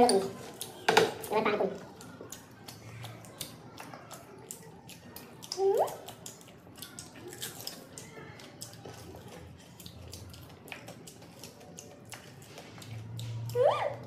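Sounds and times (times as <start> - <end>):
people chewing and crunching: 0.0 - 14.0.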